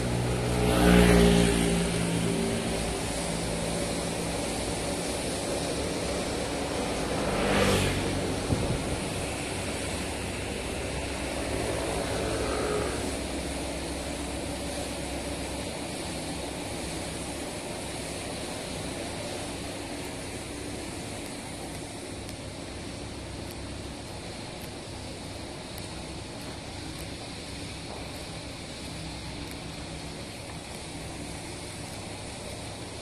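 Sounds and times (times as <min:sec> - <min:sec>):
vehicle engines passing: 0:00.0 - 0:33.0.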